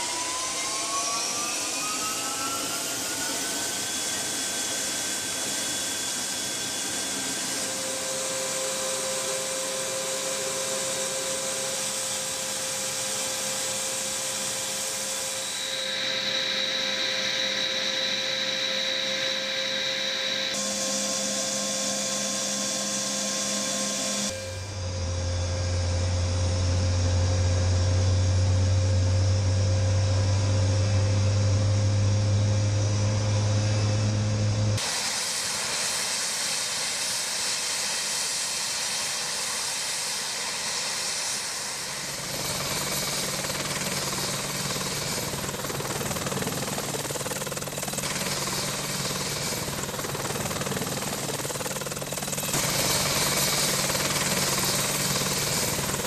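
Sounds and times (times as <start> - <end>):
helicopter low hum with tones: 0.0 - 56.0
helicopter rotor beat: 0.0 - 56.0.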